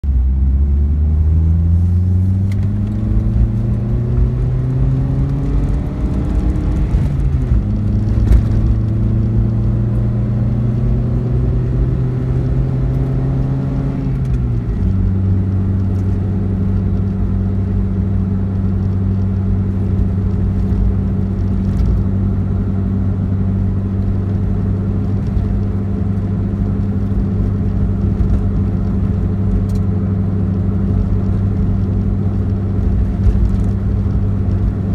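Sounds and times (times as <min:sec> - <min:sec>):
engine and drivetrain hum: 0:00.0 - 0:34.9
low road rumble: 0:00.0 - 0:34.9.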